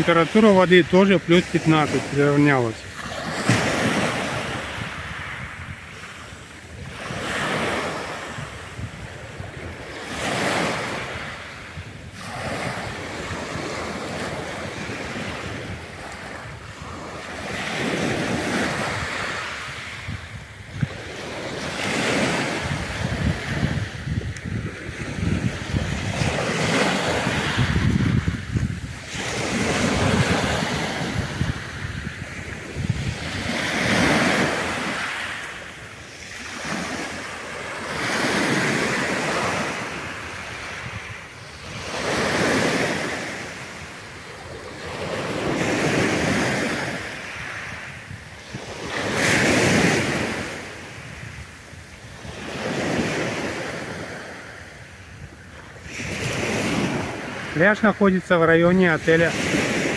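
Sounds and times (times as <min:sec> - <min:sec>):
waves breaking on pebble beach: 0:00.0 - 0:59.9.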